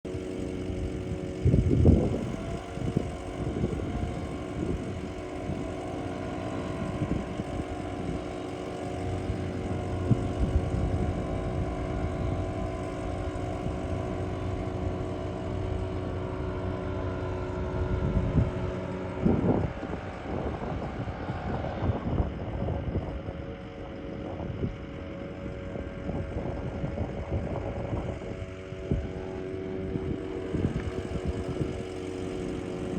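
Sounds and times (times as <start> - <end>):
engine running steadily: 0.0 - 32.9.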